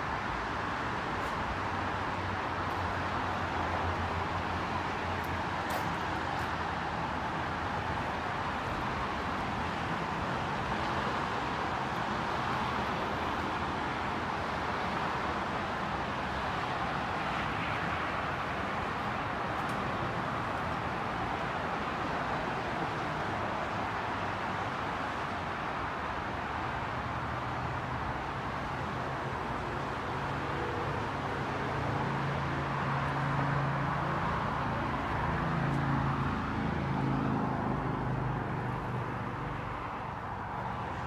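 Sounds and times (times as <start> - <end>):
traffic-like drone: 0.0 - 41.0.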